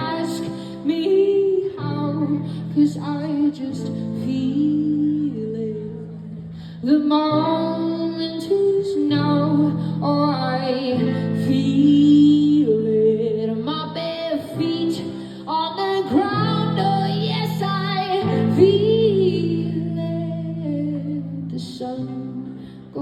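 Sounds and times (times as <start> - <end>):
guitar: 0.0 - 23.0
woman singing wordless melody: 0.0 - 23.0.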